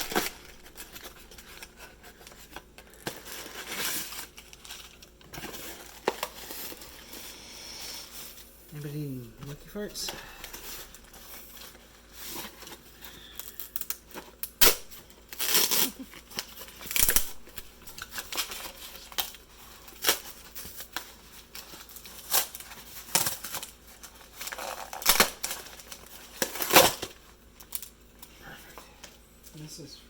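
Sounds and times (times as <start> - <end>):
packaging tearing and crinkling: 0.0 - 7.3, 9.8 - 28.0.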